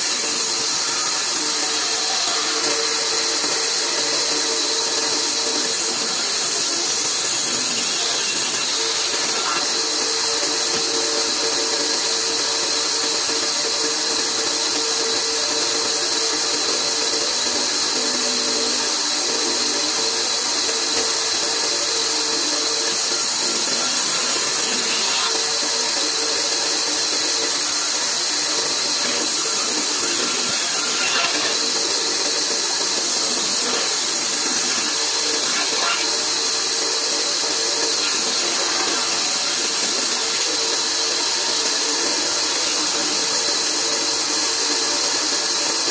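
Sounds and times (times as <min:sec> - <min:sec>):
bandsaw cutting wood: 0:00.0 - 0:45.9.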